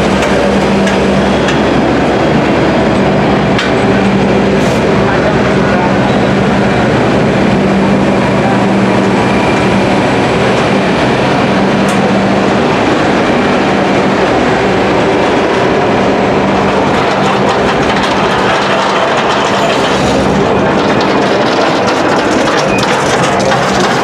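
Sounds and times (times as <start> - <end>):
steady hum: 0.0 - 24.0
train wheels on rail: 0.0 - 24.0.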